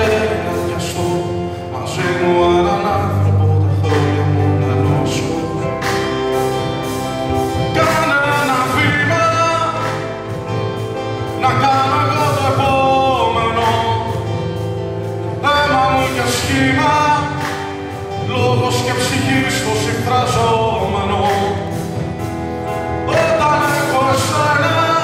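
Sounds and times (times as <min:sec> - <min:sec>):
man singing into a microphone: 0:00.0 - 0:06.4, 0:07.5 - 0:22.2, 0:23.0 - 0:25.0
live band playing: 0:00.0 - 0:25.0.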